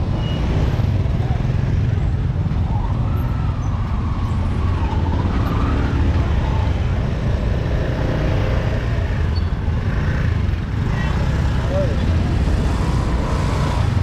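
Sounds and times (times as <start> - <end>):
passing motor vehicles rumbling: 0.0 - 14.0.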